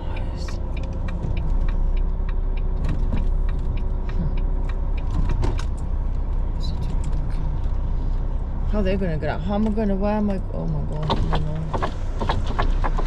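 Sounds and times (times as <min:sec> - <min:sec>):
lorry diesel engine running: 0:00.0 - 0:13.0.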